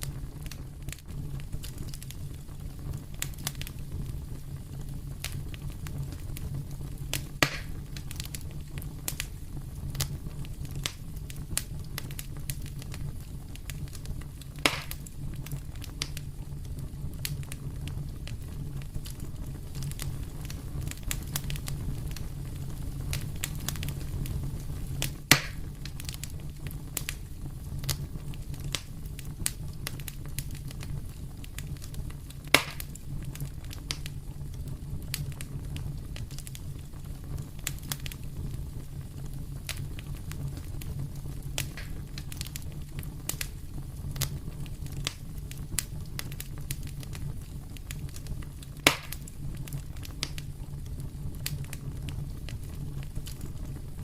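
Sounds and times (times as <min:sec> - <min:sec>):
fire crackling: 0:00.0 - 0:54.0
sharp fire pops: 0:00.0 - 0:54.0
wood fire burning: 0:00.0 - 0:54.0.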